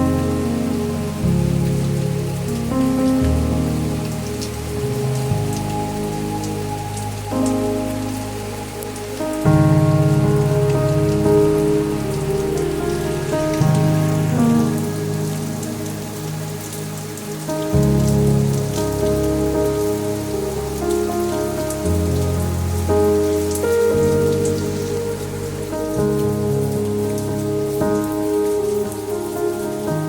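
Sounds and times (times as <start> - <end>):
rain falling: 0.0 - 30.0
slow music of held chords: 0.0 - 30.0.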